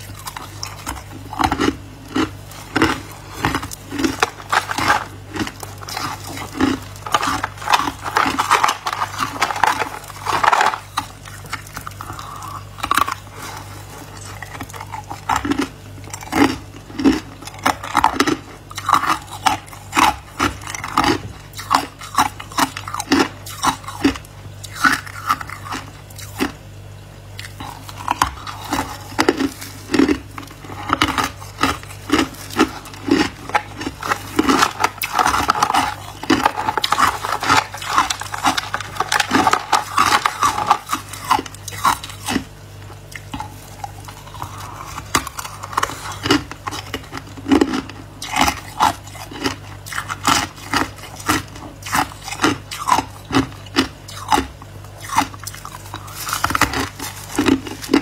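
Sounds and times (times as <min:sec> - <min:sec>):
ice crunching between teeth: 0:00.0 - 0:26.6, 0:27.4 - 0:58.0
faint low hum: 0:00.0 - 0:58.0.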